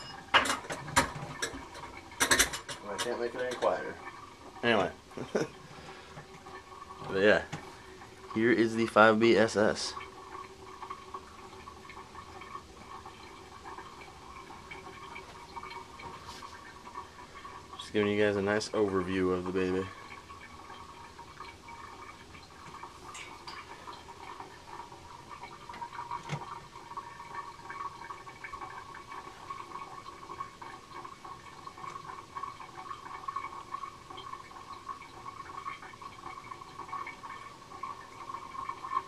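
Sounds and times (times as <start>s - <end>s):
water gurgling down drain pipe: 0.0s - 39.0s.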